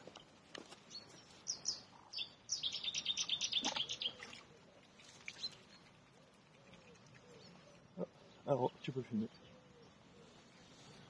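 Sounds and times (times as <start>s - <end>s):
songbird chirping and trilling: 0.0s - 11.0s.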